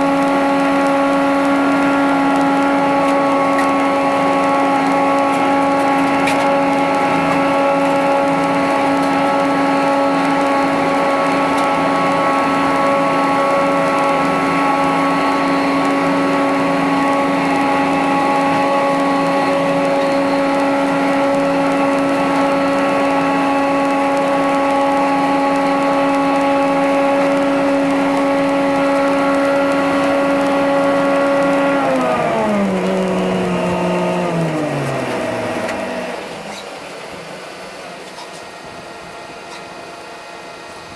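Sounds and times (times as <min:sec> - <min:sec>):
straw rushing noise: 0:00.0 - 0:38.5
bale processor machine whine: 0:00.0 - 0:40.9.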